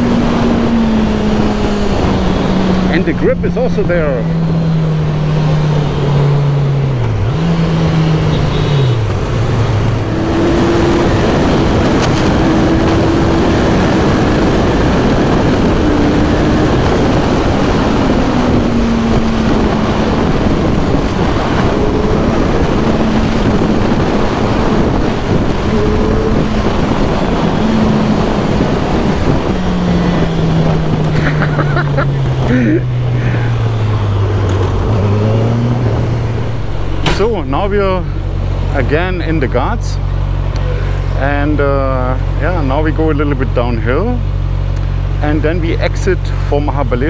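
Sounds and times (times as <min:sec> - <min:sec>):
wind rush: 0:00.0 - 0:41.2
motorcycle engine at speed: 0:00.0 - 0:47.0.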